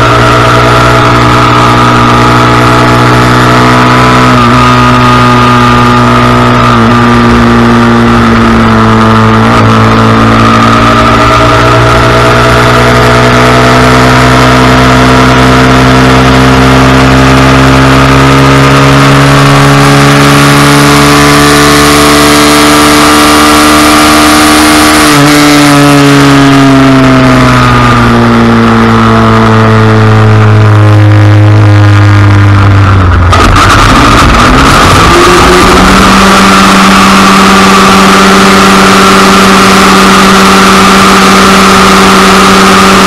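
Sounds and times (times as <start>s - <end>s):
motorcycle engine running hard: 0.0s - 43.0s.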